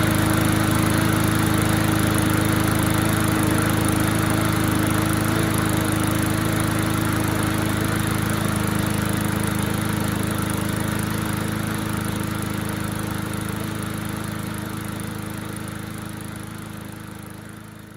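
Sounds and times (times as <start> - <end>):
lawnmower engine running: 0.0 - 17.9.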